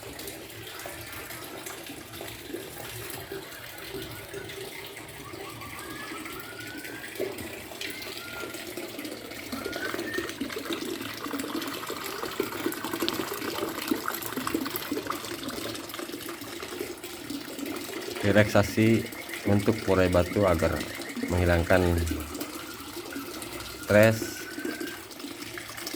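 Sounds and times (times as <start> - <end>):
water trickling and splashing: 0.0 - 25.9.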